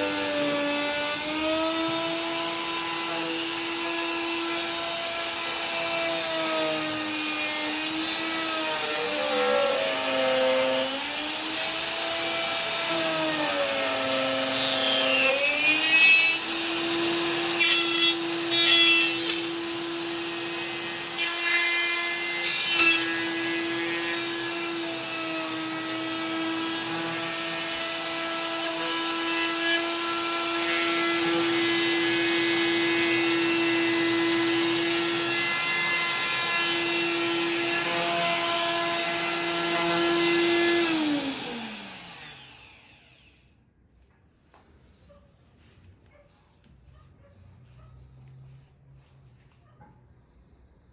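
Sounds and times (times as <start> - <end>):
rasping wood cutting: 0.0 - 43.3
wood router motor whining: 0.0 - 43.5.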